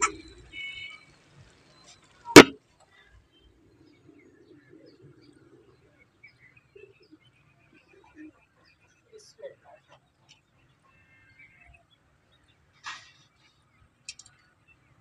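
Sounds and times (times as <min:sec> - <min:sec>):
faint low murmur: 0:00.0 - 0:15.0.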